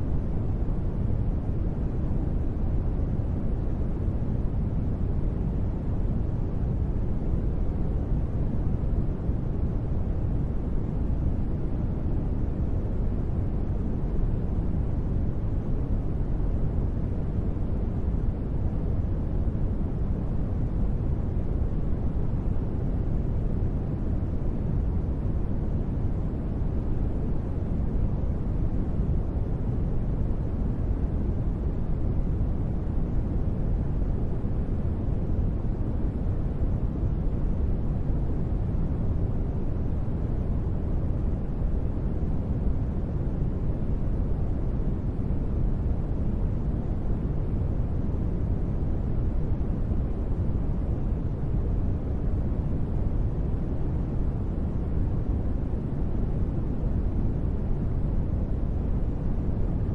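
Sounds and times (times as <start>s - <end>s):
deep rumbling ambient noise: 0.0s - 59.9s.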